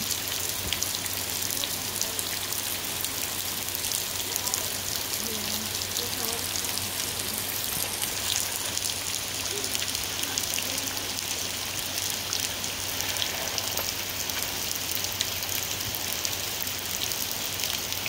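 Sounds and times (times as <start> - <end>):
rain falling through trees: 0.0 - 18.0.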